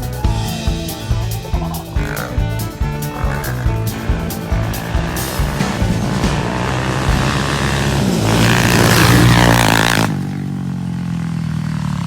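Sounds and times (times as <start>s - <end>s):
off-road engine revving: 0.0s - 12.0s.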